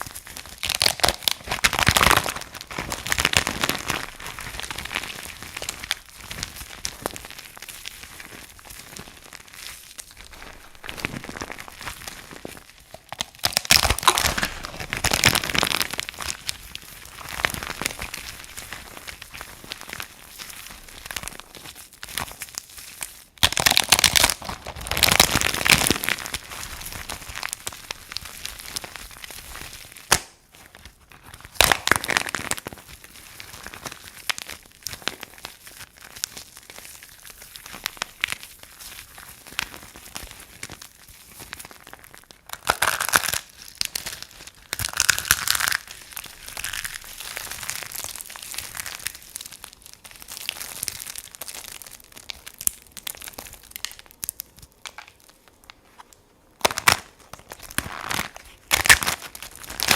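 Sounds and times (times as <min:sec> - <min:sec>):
dry soap crunching and crackling: 0:00.0 - 0:59.9.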